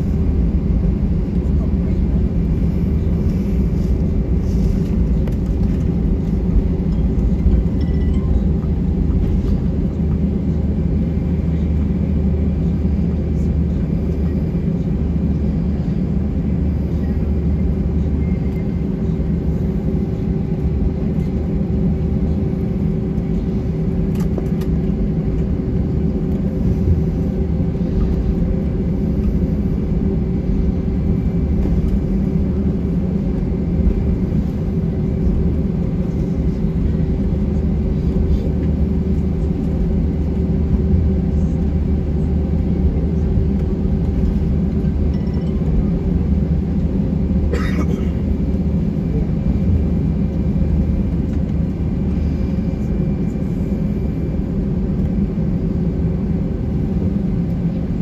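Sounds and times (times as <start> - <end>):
aircraft cabin low rumble: 0.0 - 58.0.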